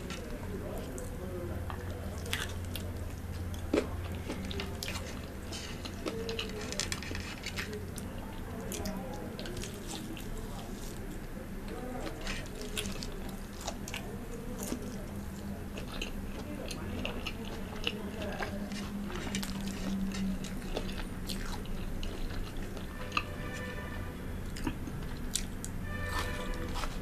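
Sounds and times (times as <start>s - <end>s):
crunchy food chewing: 0.0s - 27.0s
steady low hum: 0.0s - 27.0s.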